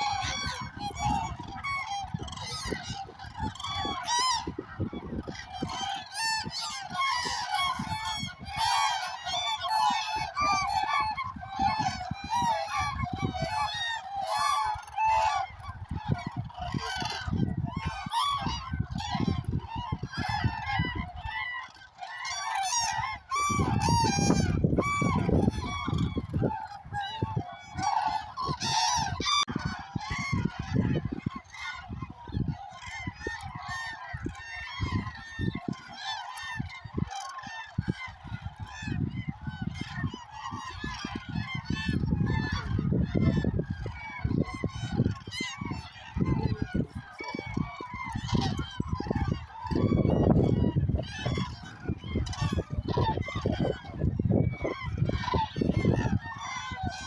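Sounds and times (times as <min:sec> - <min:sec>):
cranes trumpeting calls: 0:00.0 - 0:57.0.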